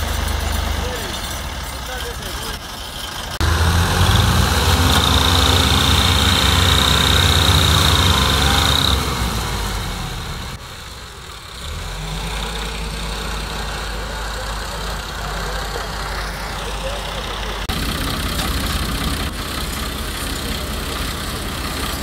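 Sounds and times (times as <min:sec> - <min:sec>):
tractor diesel engine under load: 0:00.0 - 0:22.0
tractor engines running quietly: 0:00.0 - 0:22.0.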